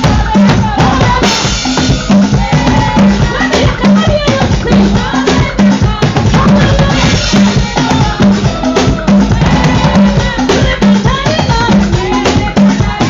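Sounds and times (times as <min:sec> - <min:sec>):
loud music with drums and bass: 0:00.0 - 0:13.0.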